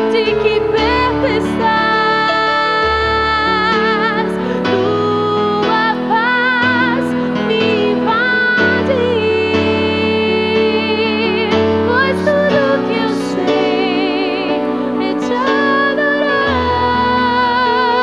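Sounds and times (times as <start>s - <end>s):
sustained instrumental accompaniment: 0.0s - 18.0s
woman singing worship song: 0.0s - 18.0s.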